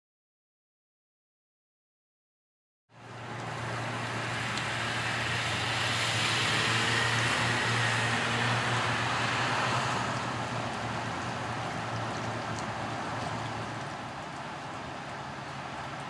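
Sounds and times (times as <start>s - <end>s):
rushing outdoor noise: 2.9s - 16.0s.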